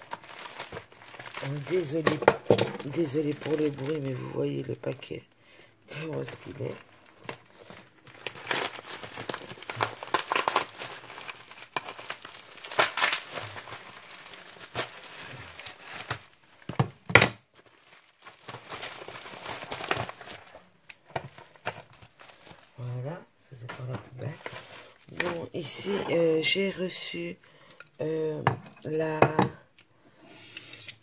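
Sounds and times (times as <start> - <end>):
plastic packaging crinkling: 0.0 - 26.6.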